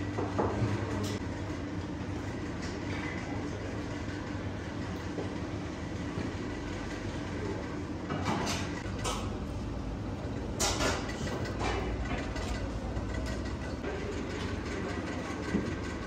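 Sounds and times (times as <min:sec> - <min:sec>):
kitchen background rumble: 0:00.0 - 0:16.0.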